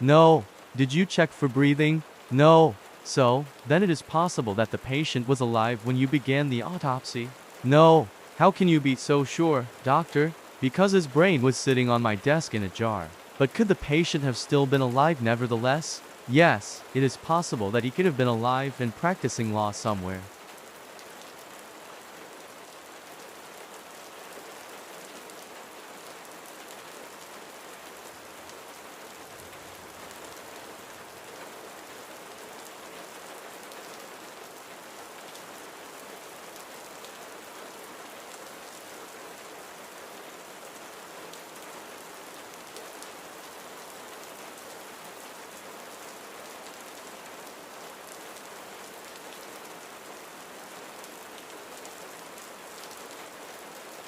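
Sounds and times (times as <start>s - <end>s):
steady rain hiss: 0.0s - 54.0s
raindrops pattering: 0.1s - 54.0s.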